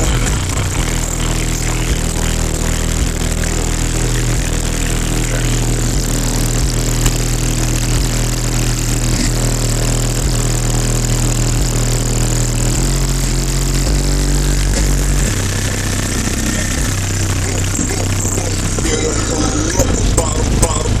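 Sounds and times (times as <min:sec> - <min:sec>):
subwoofer playing deep bass: 0:00.0 - 0:21.0.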